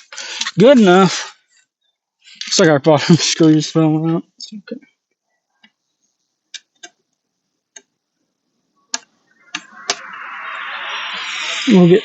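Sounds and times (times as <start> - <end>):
steady noise hiss: 0.0 - 12.0.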